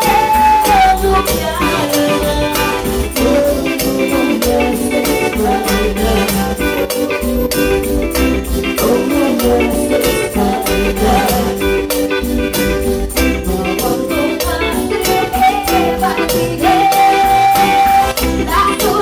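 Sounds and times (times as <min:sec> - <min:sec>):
cumbia band music: 0:00.0 - 0:19.0
fast percussion beat: 0:00.0 - 0:19.0.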